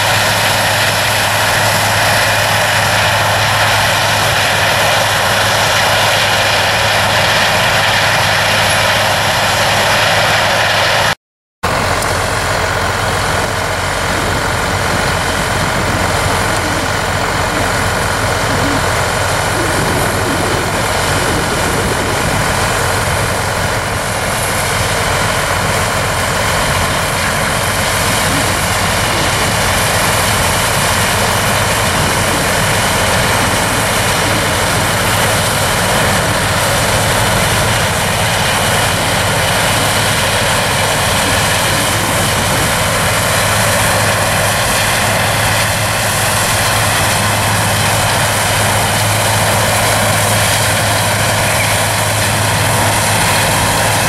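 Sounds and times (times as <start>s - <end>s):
diesel harvest machinery drone: 0.0s - 54.0s.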